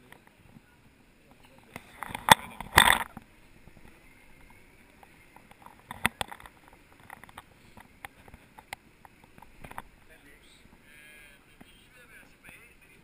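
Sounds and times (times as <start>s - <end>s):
faint street noise: 0.0s - 13.0s.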